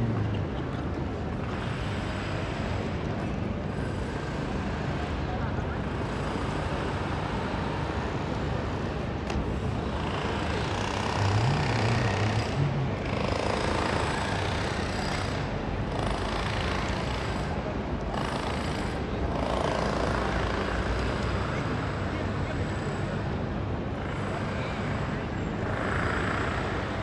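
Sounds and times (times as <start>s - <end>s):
distant traffic rumble: 0.0s - 27.0s.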